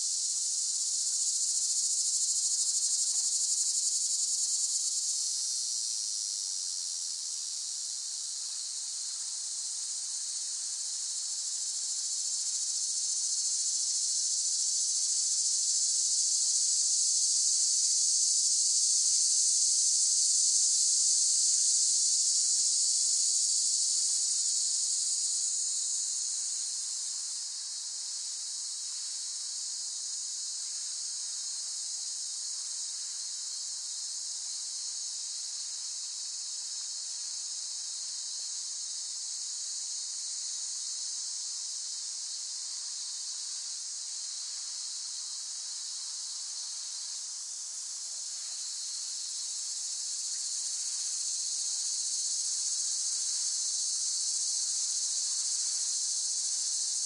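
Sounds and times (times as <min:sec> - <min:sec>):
cicadas buzzing: 0:00.0 - 0:07.6, 0:08.2 - 0:57.0.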